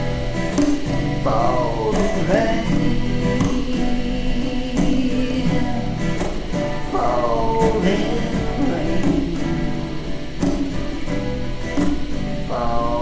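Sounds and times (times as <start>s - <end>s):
blues music with guitar: 0.0s - 13.0s.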